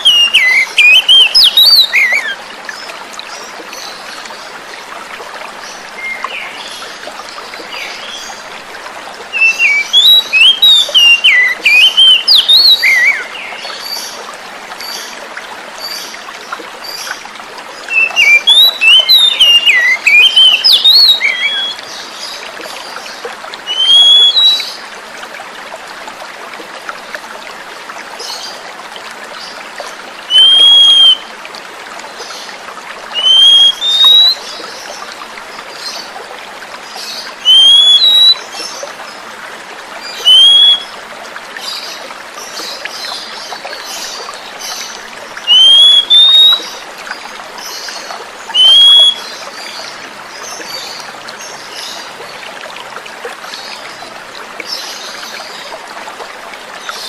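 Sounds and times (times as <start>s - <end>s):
trickle of running water: 0.0s - 57.0s.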